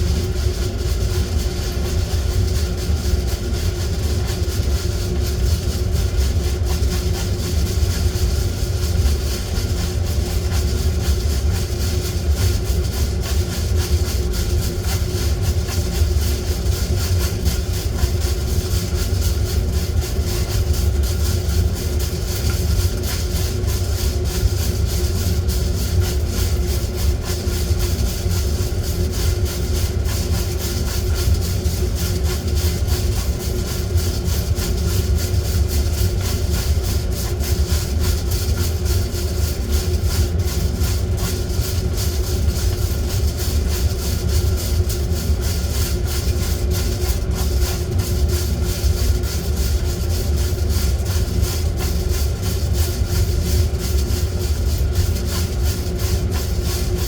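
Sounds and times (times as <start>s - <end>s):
electric fan motor humming: 0.0s - 57.0s.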